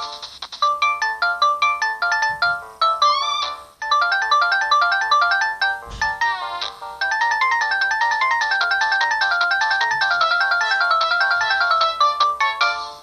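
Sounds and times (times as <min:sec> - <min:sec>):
polyphonic phone ringtone: 0:00.0 - 0:13.0.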